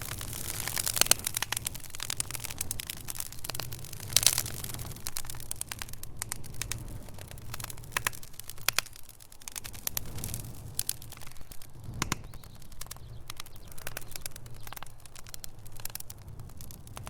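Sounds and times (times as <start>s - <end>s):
burning logs popping: 0.0s - 17.0s
wood fire crackling: 0.0s - 17.0s.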